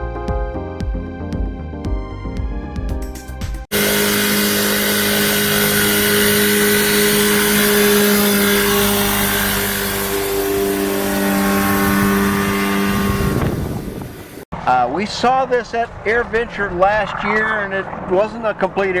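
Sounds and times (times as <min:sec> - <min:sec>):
small aircraft engine droning: 0:03.7 - 0:19.0.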